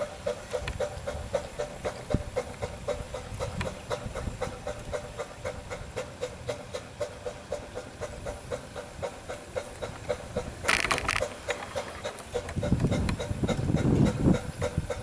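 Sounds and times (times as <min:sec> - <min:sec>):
steam engine exhaust chuffing: 0:00.0 - 0:15.0
steam hissing: 0:00.0 - 0:15.0.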